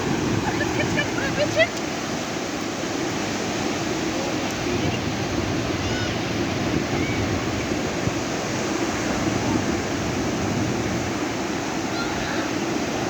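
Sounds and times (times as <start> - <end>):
waves washing onto sandy beach: 0.0 - 13.0.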